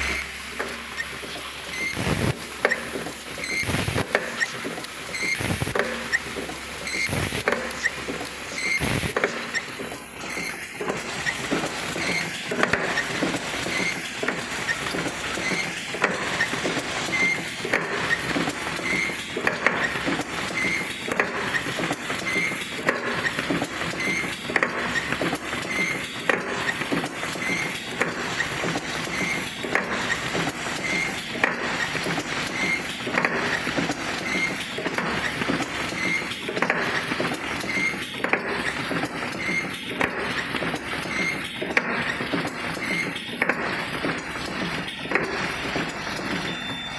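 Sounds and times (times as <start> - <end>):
machine clicking and clattering: 0.1 - 46.9.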